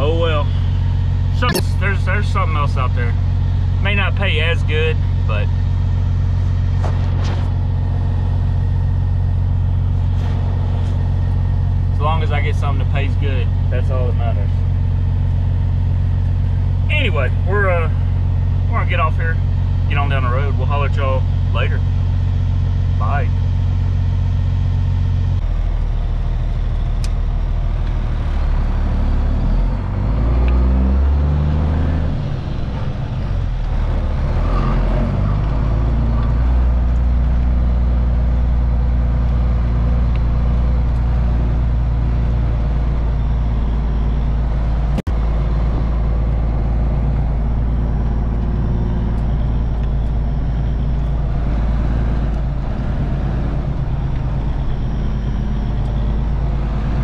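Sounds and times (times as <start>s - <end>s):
diesel truck engine: 0.0s - 57.0s.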